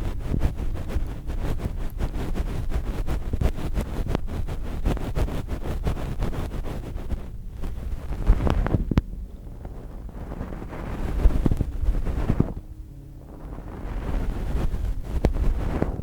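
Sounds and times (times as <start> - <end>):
rubbing and scratching in ear: 0.0 - 16.0
sharp crackles: 0.0 - 16.0.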